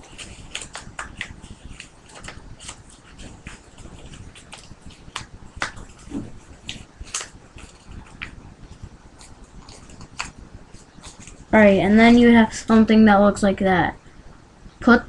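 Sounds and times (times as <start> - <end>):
paper crinkling: 0.0 - 12.2.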